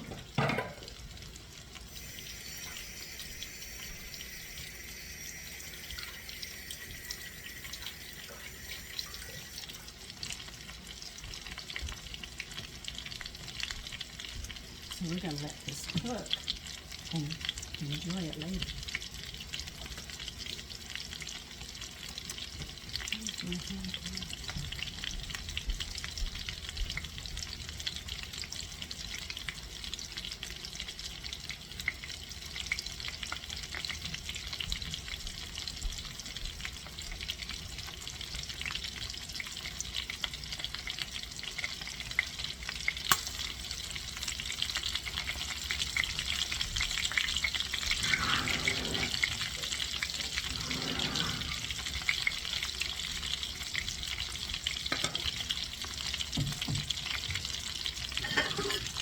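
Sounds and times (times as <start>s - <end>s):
chicken frying in oil: 0.0s - 59.0s.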